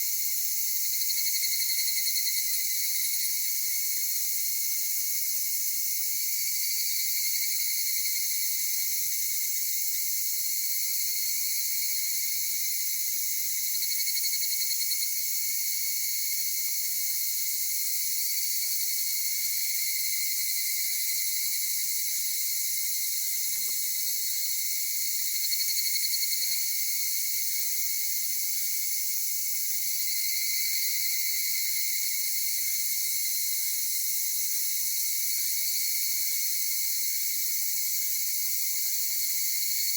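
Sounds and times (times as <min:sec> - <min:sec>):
chorus of singing insects: 0:00.0 - 0:39.9
cicadas pulsing calls: 0:00.0 - 0:39.9.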